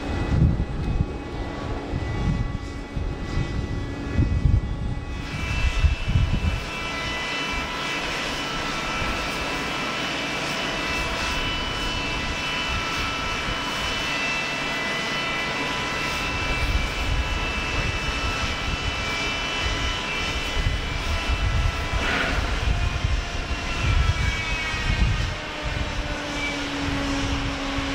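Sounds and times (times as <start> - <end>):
jet engines whining: 0.0 - 27.9.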